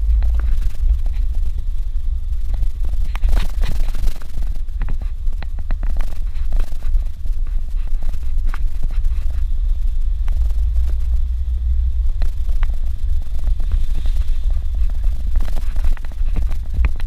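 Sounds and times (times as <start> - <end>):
car driving on dirt road: 0.0 - 17.0.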